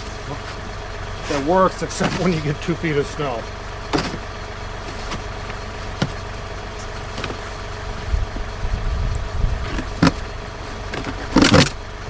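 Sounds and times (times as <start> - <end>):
engine hum: 0.0 - 12.0
low rumble: 0.0 - 12.0.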